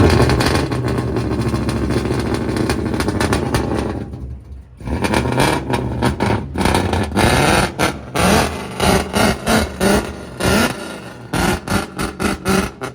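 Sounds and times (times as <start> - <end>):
loud car exhaust: 0.0 - 12.9.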